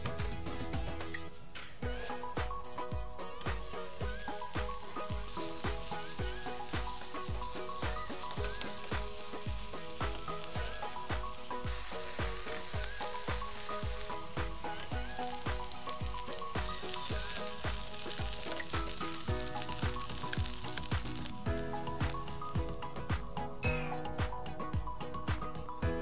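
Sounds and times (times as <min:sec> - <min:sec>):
chicken sizzling in a pan: 0:00.0 - 0:25.6
background music with steady beat: 0:00.0 - 0:26.0.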